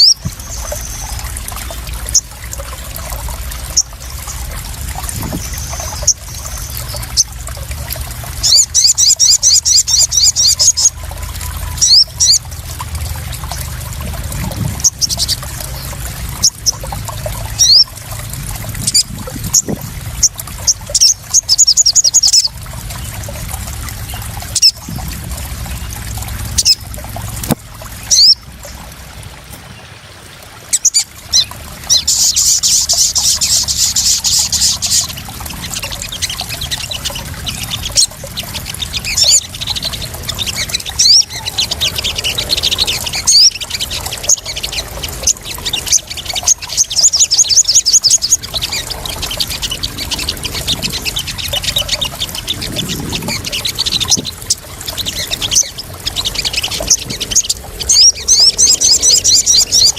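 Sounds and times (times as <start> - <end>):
sunbird rattling trills and chirps: 0.0 - 28.8, 30.7 - 59.9
water trickling and splashing: 0.0 - 59.9.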